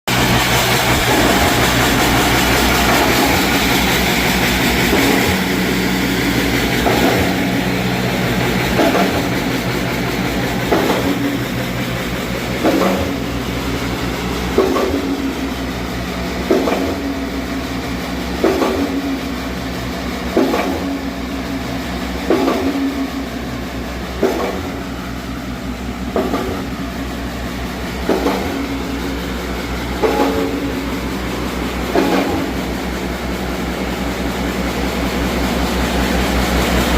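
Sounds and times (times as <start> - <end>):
pump knocking: 0.1 - 15.8, 16.4 - 17.6, 18.4 - 19.4, 22.2 - 23.3, 24.0 - 36.9
pump engine humming: 0.1 - 36.9.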